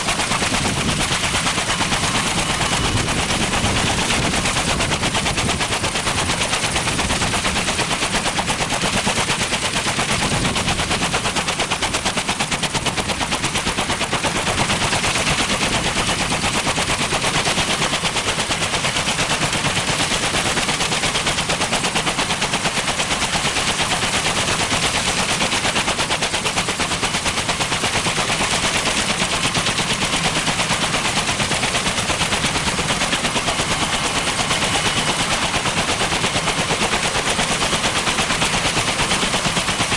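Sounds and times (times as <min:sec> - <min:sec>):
helicopter rotors chopping: 0:00.0 - 0:39.9.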